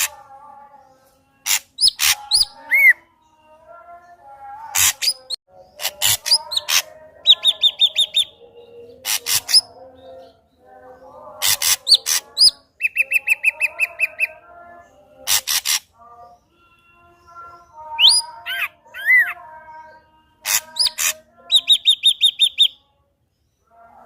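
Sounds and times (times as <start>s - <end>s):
bird singing varied song: 0.0s - 24.0s.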